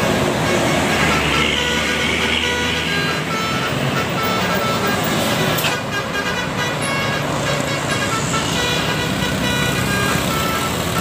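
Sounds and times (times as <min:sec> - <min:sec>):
multi-tone bus horn melody: 0:00.0 - 0:11.0
road traffic noise: 0:00.0 - 0:11.0.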